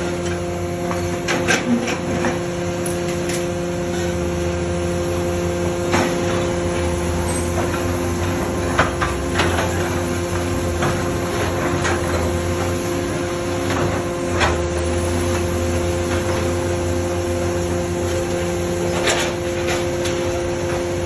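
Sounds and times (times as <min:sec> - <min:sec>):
hydraulic power unit hum: 0:00.0 - 0:21.0.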